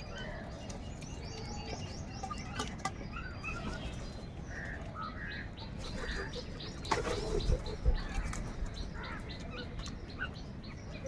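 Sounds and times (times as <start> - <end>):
birds chirping: 0.0 - 11.0
harsh bird calls: 0.0 - 11.0.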